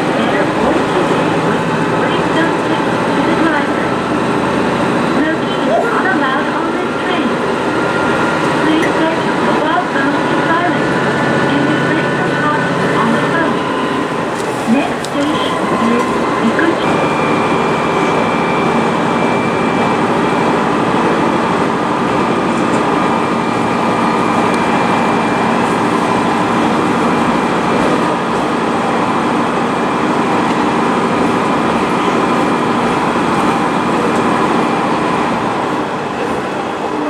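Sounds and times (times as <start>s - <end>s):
diesel railcar engine drone: 0.0s - 37.0s.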